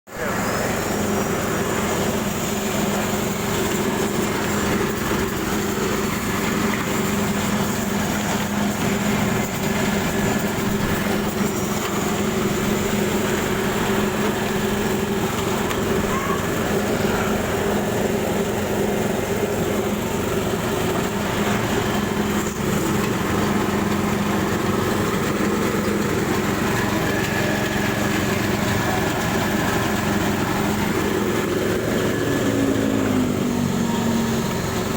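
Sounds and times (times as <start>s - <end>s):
slicing machine humming: 0.2s - 34.9s.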